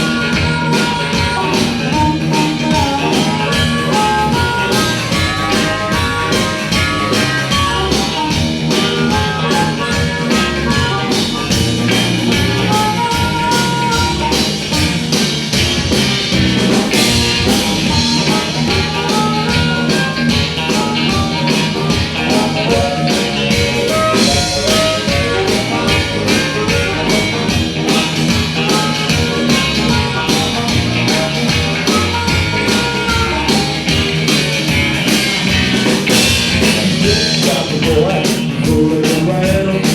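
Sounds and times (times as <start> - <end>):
electric guitar lines: 0.0 - 39.9
live rock band playing: 0.0 - 39.9.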